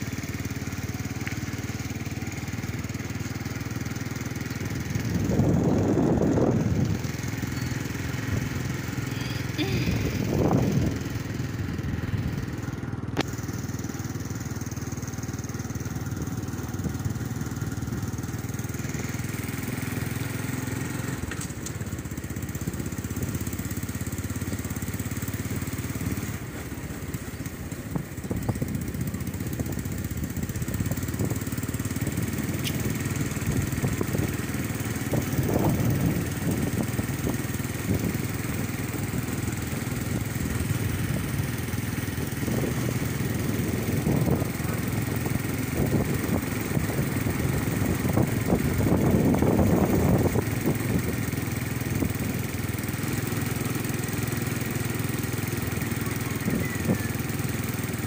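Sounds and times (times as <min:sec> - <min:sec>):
small motorcycle engine running: 0:00.0 - 0:58.0.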